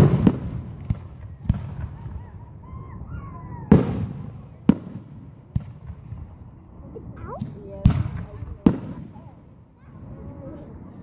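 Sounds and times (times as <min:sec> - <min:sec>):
fireworks booming overhead: 0:00.0 - 0:11.0.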